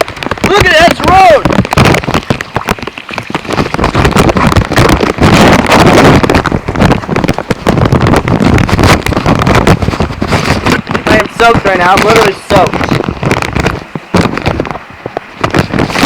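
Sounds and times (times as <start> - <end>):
heavy rain on plastic bag: 0.0 - 16.0
wind buffeting microphone: 0.0 - 16.0.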